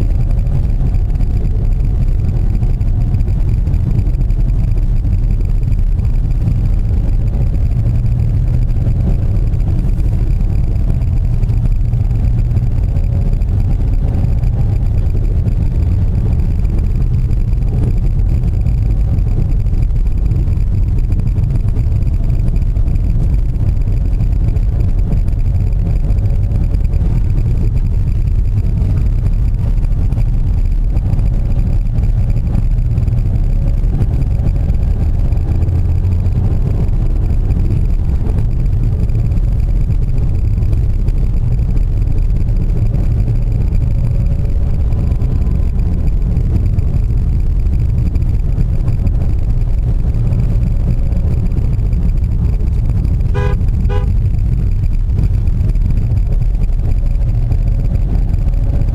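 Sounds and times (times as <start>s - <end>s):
car engine and road rumble: 0.0s - 58.9s.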